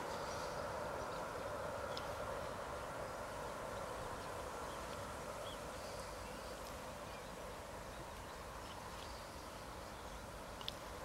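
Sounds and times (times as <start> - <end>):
steady distant hum: 0.0 - 11.0.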